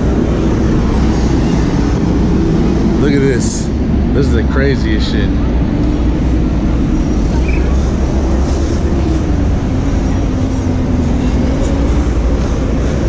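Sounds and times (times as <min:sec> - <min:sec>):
engine drone: 0:00.0 - 0:13.0
traffic rumble: 0:00.0 - 0:13.0.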